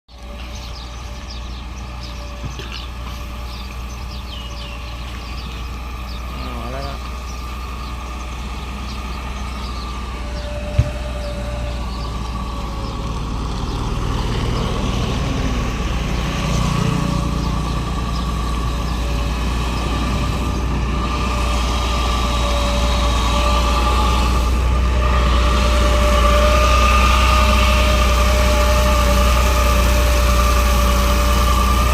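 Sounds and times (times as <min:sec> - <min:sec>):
steady whine: 0:00.1 - 0:31.9
truck diesel engine running: 0:00.1 - 0:31.9.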